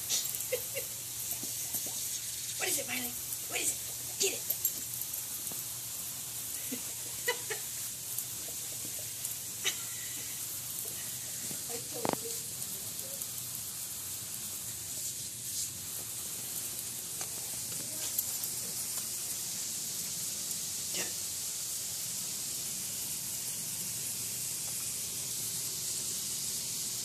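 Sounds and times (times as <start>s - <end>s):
sprinkler spraying with hiss: 0.0s - 27.0s.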